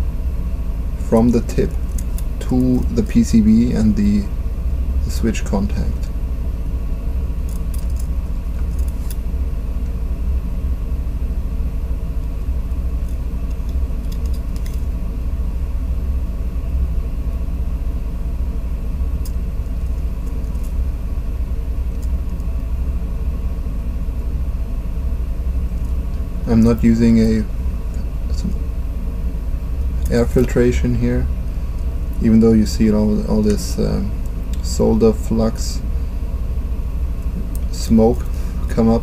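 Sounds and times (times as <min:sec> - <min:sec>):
low background rumble: 0:00.0 - 0:39.0.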